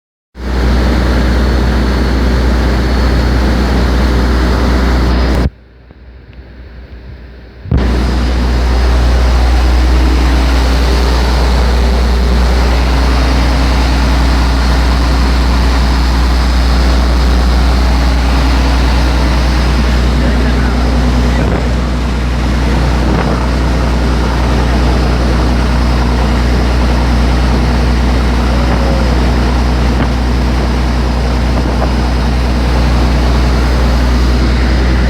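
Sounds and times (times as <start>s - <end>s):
rushing noise: 0.4s - 5.5s, 7.7s - 35.0s
boat engine drone: 0.4s - 35.0s.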